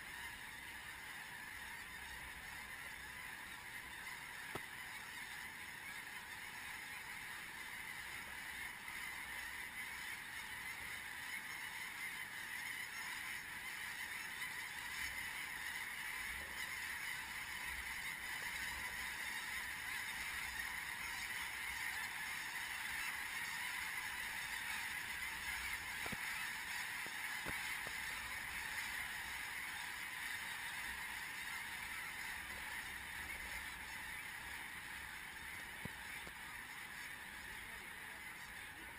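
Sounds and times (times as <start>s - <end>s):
snow geese honking and yelping: 0.0s - 38.9s.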